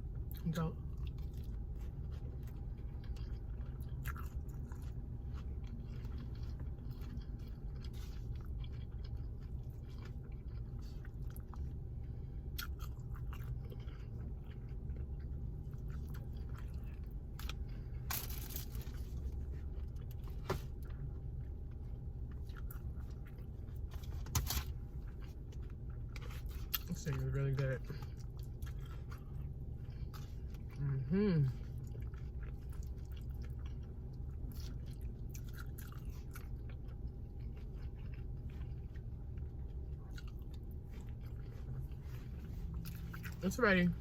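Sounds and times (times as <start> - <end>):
person chewing food: 0.0 - 43.5
steady low hum: 0.0 - 44.0.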